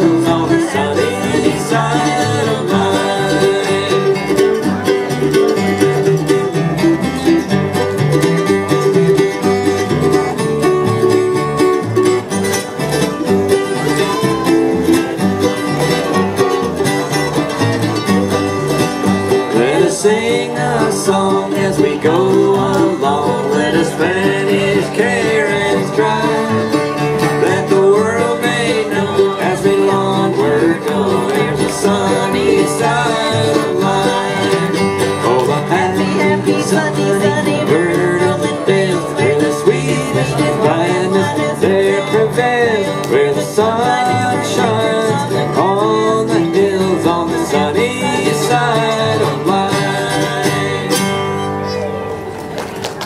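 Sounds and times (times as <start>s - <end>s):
acoustic guitar: 0.0s - 53.0s
mandolin: 0.0s - 53.0s
upright bass: 0.0s - 53.0s.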